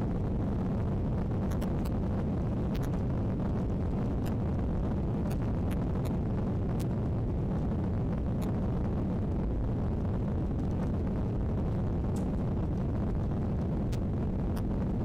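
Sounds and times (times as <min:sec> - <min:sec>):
airplane cabin engine rush: 0:00.0 - 0:15.0.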